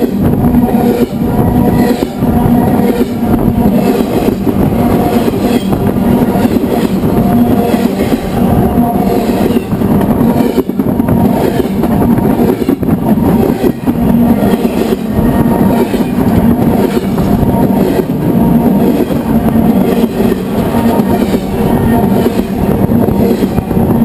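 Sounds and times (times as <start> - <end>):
freight cars rolling on rails: 0.0 - 24.0.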